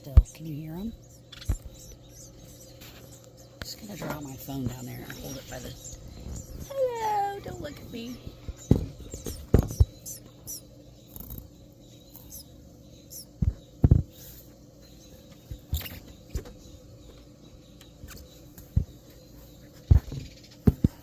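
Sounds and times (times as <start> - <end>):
baby birds cheeping: 0.0 - 21.0.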